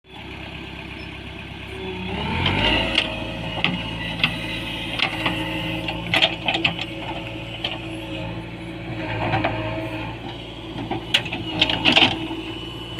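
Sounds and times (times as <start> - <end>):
backhoe diesel engine revving: 0.1 - 12.9.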